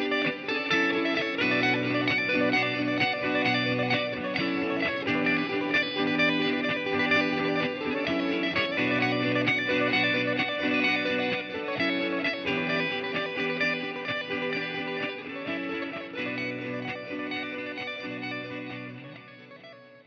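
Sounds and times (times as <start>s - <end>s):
electric guitar lead line: 0.0s - 20.0s
electric guitar rhythm chords: 0.0s - 20.0s.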